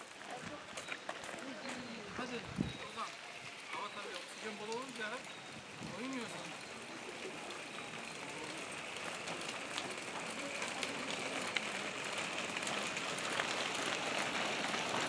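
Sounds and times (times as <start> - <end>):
stroller wheels rolling on gravel: 0.0 - 15.0.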